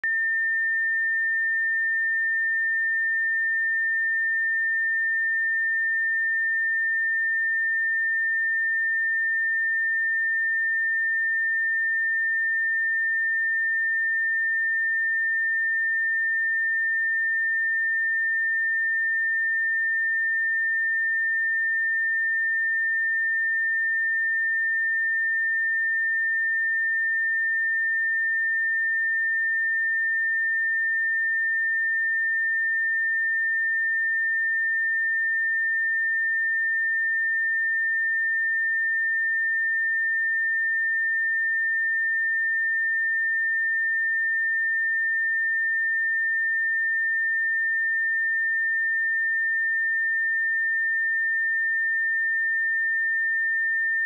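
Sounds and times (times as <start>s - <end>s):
high-pitched sine tone: 0.0s - 54.0s.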